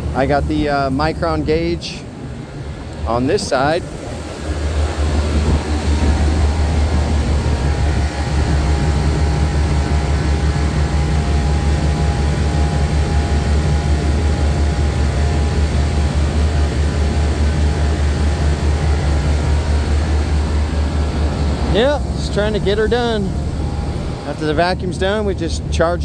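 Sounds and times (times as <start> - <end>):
faint whine: 0.0 - 26.0
vacuum pump humming: 0.0 - 26.0.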